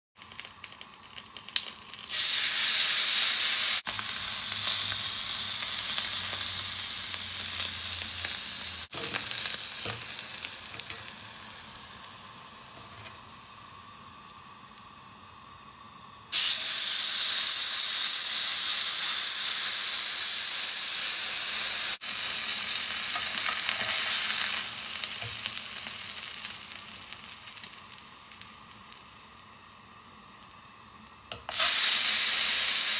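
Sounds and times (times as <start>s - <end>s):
steak sizzling in a pan: 0.2s - 15.0s, 16.3s - 32.9s.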